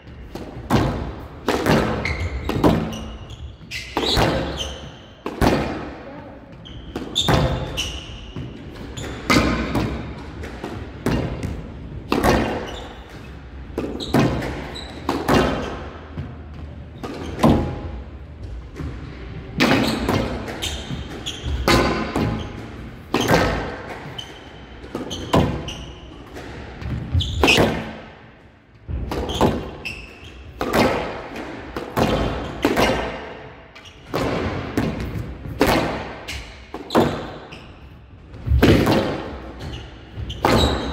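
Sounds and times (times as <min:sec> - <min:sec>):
squash ball knocks echoing: 0:00.0 - 0:29.8, 0:30.4 - 0:37.5, 0:38.2 - 0:40.9.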